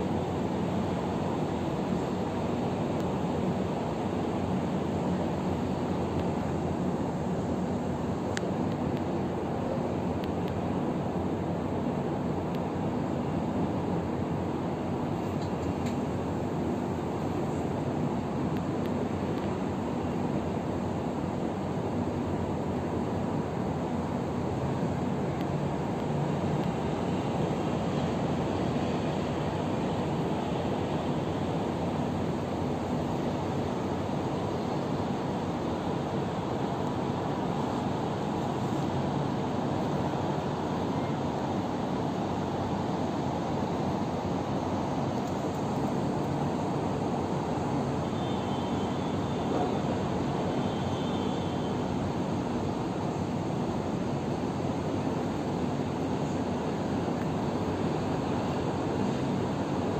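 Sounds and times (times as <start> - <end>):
city traffic hum: 0.0 - 59.9
faint high whine: 0.0 - 59.9
wind: 0.0 - 59.9.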